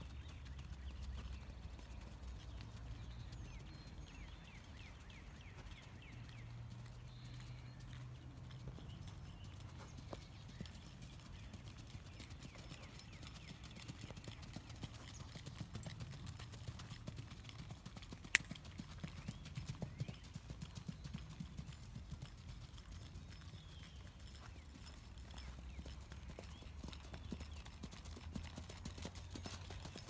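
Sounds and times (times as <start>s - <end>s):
horse hoofbeats on dirt: 0.0s - 30.0s.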